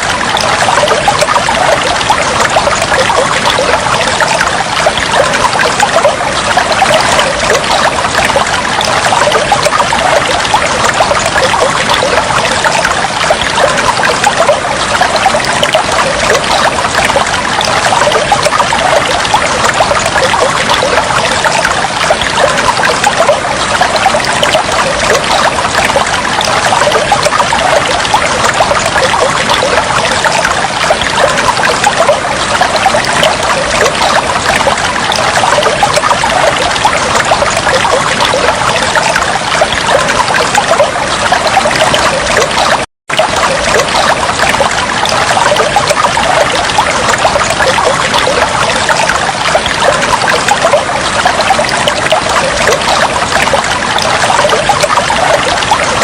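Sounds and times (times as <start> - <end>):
water trickling and bubbling: 0.0 - 56.0.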